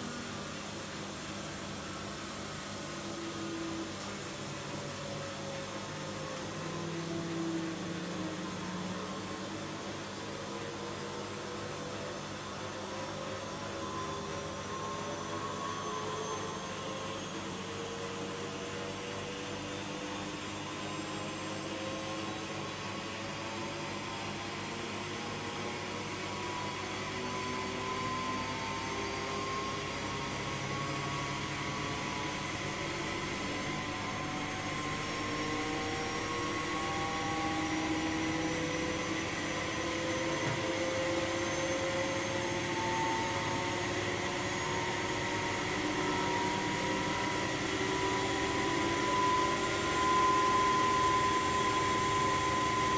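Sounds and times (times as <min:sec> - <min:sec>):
washing machine spinning up: 0:00.0 - 0:52.9.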